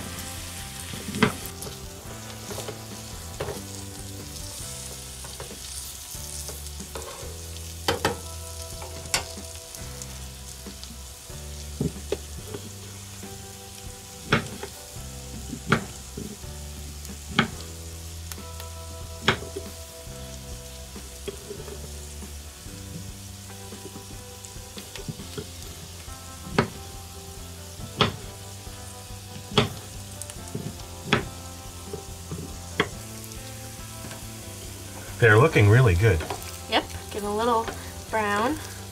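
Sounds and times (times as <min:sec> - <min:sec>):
onions sizzling in oil: 0:00.0 - 0:38.9.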